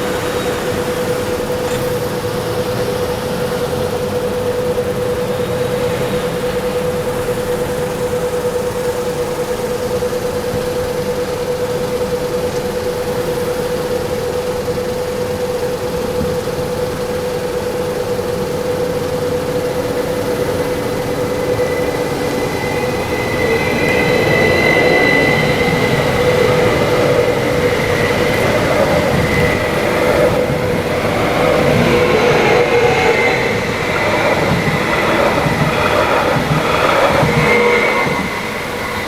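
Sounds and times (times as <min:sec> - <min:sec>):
higher whine: 0:00.0 - 0:39.0
train running on track: 0:00.0 - 0:39.0.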